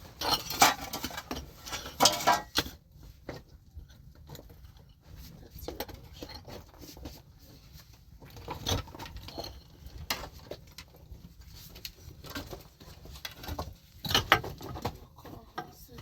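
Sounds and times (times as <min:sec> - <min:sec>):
small objects knocking and rustling: 0:00.1 - 0:16.0.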